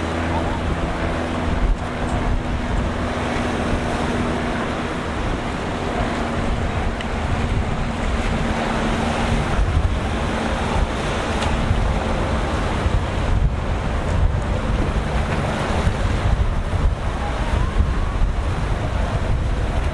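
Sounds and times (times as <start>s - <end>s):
boat engine droning: 0.0s - 19.9s
rough surf and rushing water: 0.0s - 19.9s
wind buffeting microphone: 0.0s - 19.9s.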